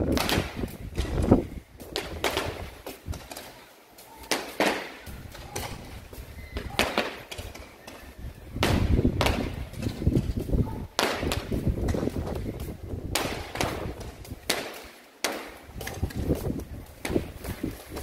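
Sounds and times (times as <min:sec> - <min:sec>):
fireworks cracking and popping: 0:00.0 - 0:18.0.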